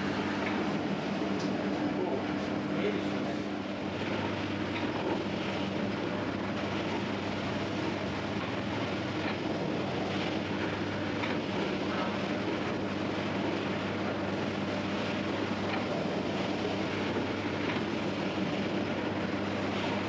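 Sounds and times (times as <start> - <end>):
dough machine humming: 0.0 - 20.0.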